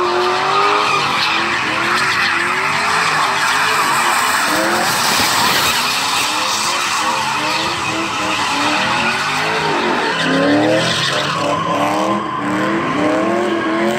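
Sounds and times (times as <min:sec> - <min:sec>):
truck engine revving hard: 0:00.0 - 0:13.9
tyres spinning on wet pavement: 0:00.1 - 0:13.9.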